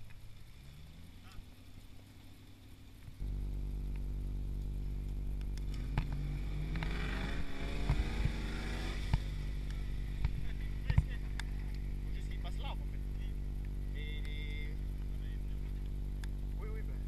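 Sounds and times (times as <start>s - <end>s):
engine labouring uphill: 0.0s - 17.0s.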